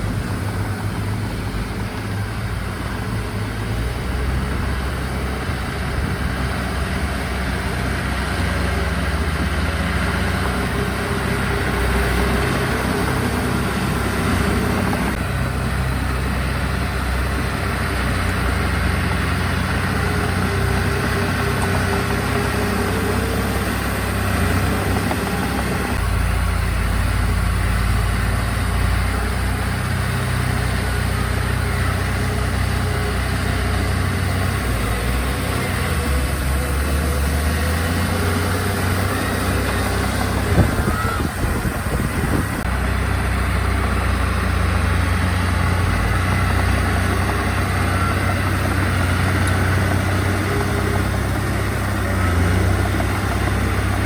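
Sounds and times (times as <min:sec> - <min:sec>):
diesel engine of heavy machinery: 0:00.0 - 0:54.0.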